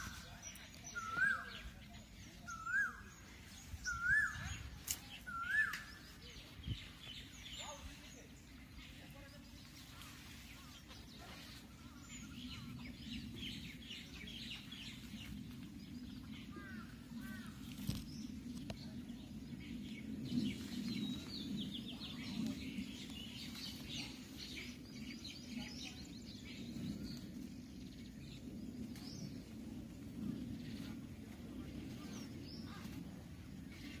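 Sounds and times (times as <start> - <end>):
birds chirping and calling: 0.0 - 34.0.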